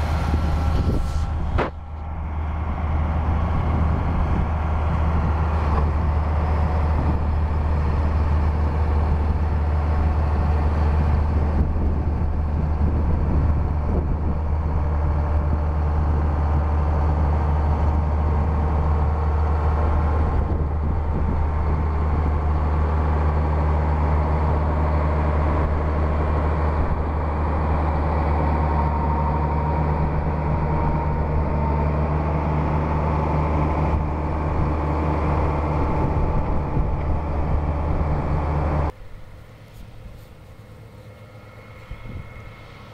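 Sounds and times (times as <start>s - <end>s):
combine threshing machinery: 0.0s - 42.9s
tractor diesel engine running: 0.0s - 42.9s.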